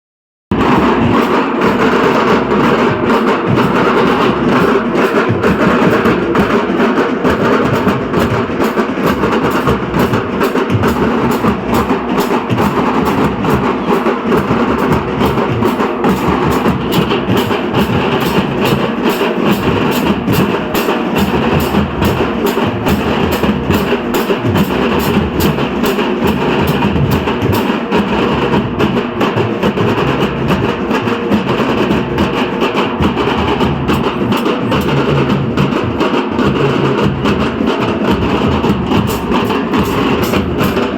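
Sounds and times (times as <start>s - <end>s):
dhol drums: 0.5s - 40.9s
fast tasha drum roll: 0.5s - 40.9s.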